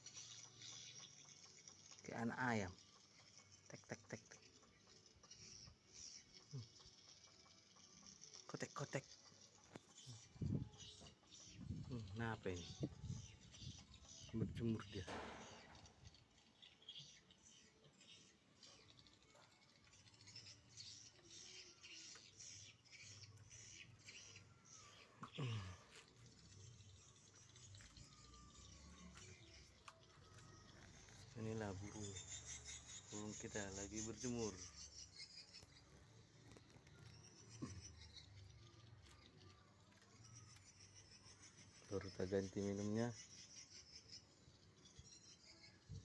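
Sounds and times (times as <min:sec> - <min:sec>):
faint high-pitched chirping: 0:00.0 - 0:46.0
faint ticks and scratches: 0:00.0 - 0:46.0.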